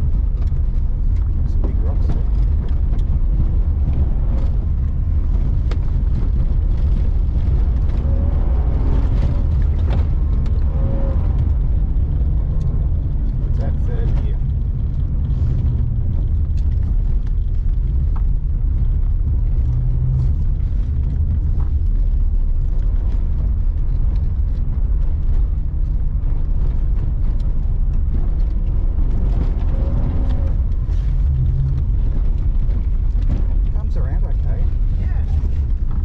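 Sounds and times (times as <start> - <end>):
car engine rumbling: 0.0 - 36.0.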